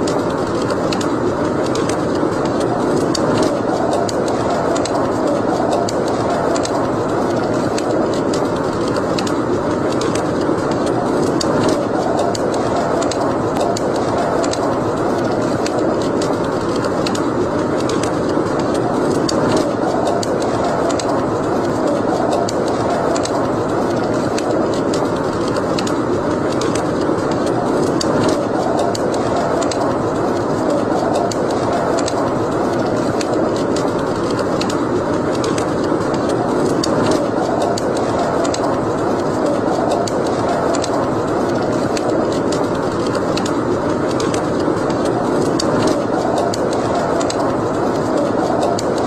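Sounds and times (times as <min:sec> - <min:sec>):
fire crackling and popping: 0:00.0 - 0:49.0
fire rushing: 0:00.0 - 0:49.0
roar of flames: 0:00.0 - 0:49.0.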